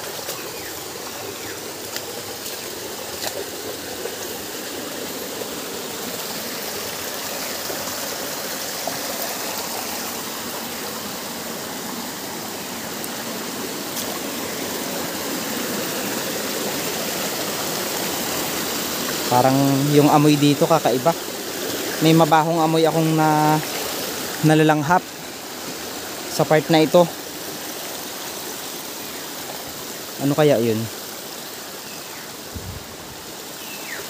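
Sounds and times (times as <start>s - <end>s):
stream water flowing: 0.0s - 34.0s.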